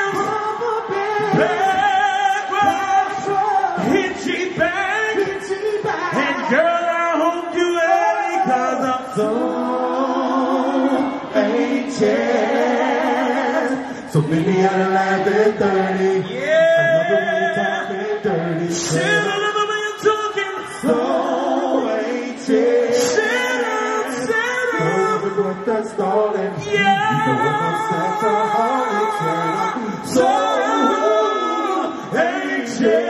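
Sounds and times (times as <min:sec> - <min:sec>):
backing voices singing: 0:00.0 - 0:33.0
man singing into microphone: 0:00.0 - 0:33.0.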